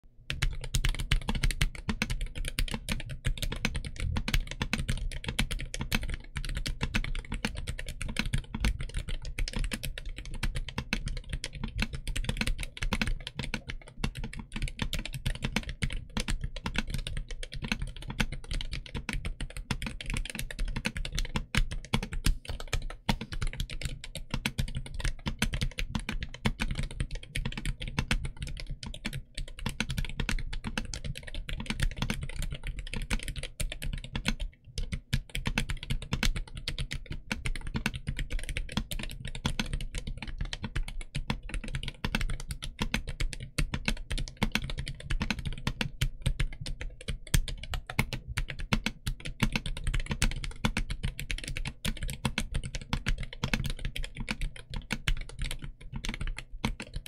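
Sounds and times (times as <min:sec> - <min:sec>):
fast mechanical keyboard typing: 0:00.3 - 0:57.0.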